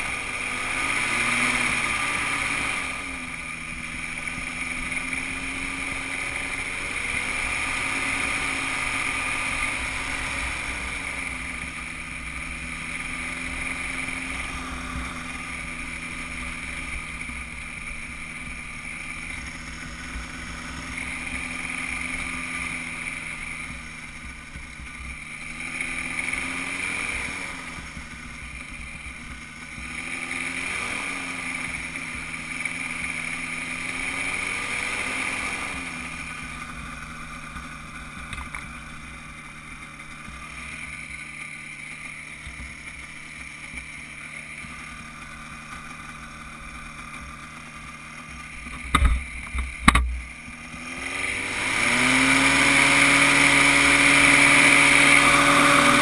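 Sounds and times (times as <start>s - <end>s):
microlight engine running: 0.0s - 56.0s.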